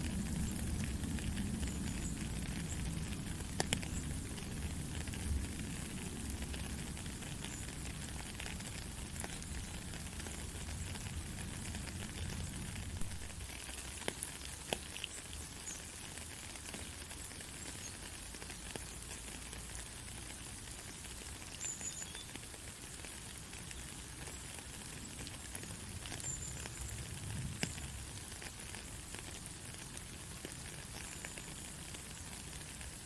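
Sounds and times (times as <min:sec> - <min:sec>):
steady rain hiss: 0:00.0 - 0:33.0
sharp drip ticks: 0:00.1 - 0:33.0.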